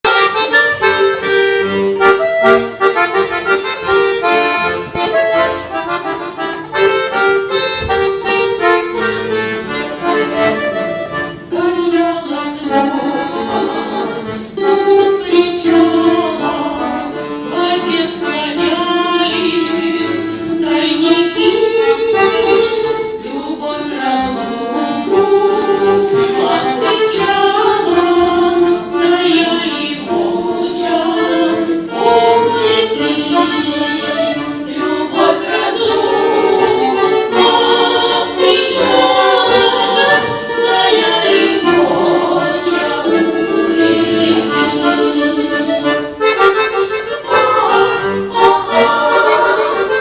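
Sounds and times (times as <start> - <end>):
accordion folk melody: 0.0 - 50.0.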